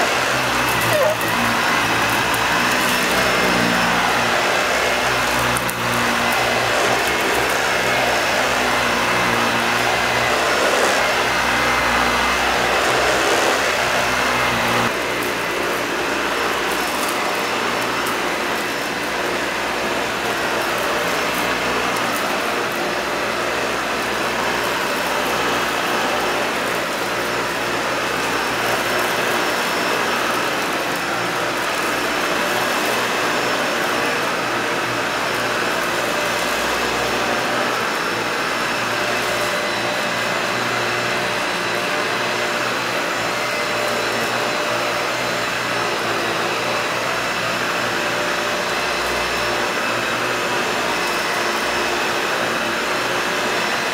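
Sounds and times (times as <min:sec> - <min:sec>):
vacuum cleaner running on carpet: 0:00.0 - 0:53.9.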